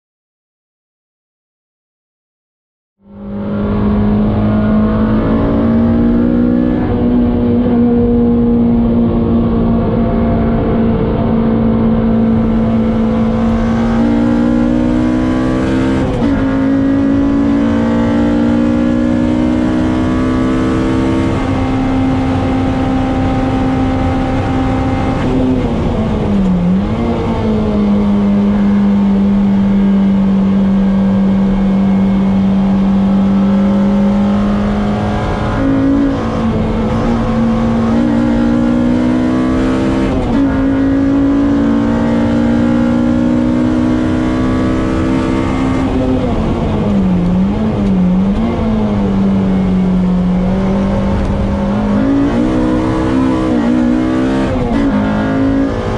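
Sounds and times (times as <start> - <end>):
car engine at high revs: 3.0 - 55.9.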